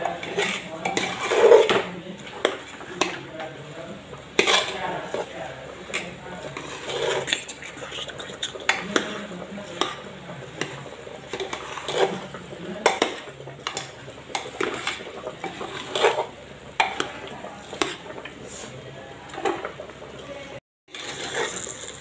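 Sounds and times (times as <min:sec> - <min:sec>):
metal ladle scraping pot: 0:00.0 - 0:19.9, 0:20.9 - 0:22.0.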